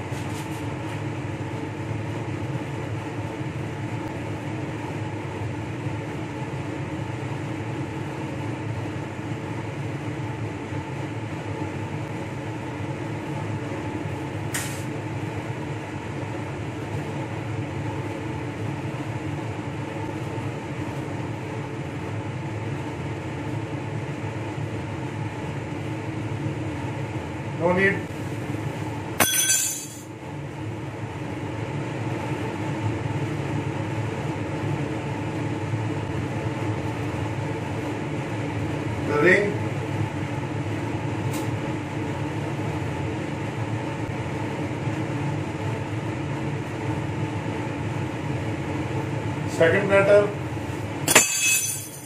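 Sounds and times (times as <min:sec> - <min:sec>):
fan humming: 0:00.0 - 0:52.0.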